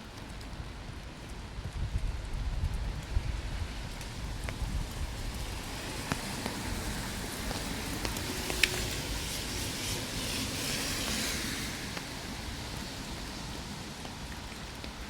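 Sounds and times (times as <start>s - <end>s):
raindrop ticks: 0.0s - 9.7s, 10.6s - 15.0s
rain hissing: 0.2s - 15.0s.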